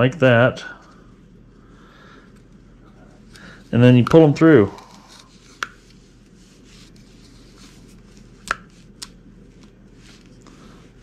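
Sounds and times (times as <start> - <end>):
faint rubbing and handling: 0.8 - 11.0.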